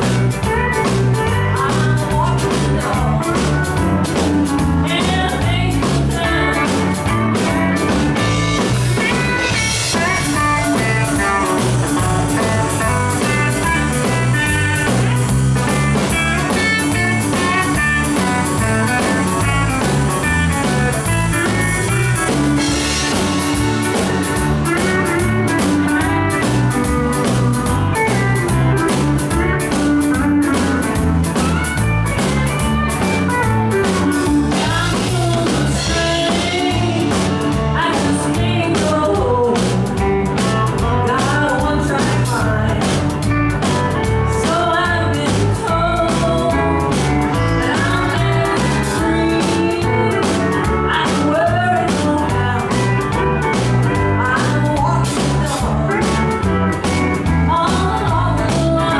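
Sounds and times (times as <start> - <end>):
country band playing: 0.0 - 58.9.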